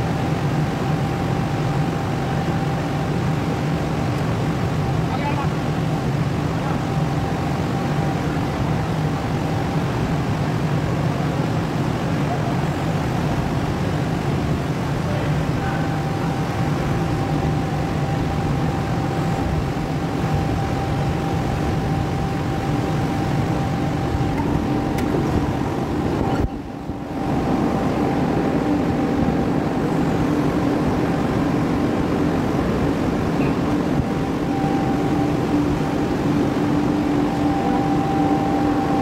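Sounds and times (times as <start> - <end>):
machine humming with whine: 0.0 - 39.0.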